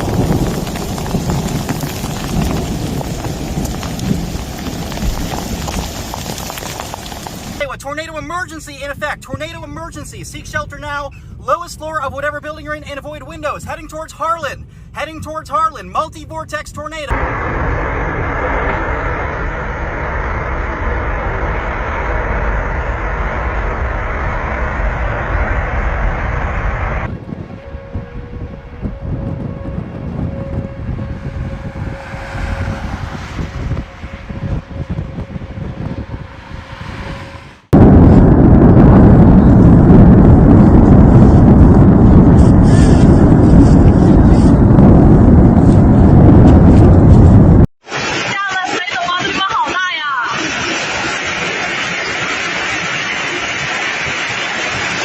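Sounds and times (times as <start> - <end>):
roaring tornado wind: 0.0 - 11.1, 17.1 - 55.0
wind rumble on microphone: 0.0 - 15.4, 17.1 - 47.7.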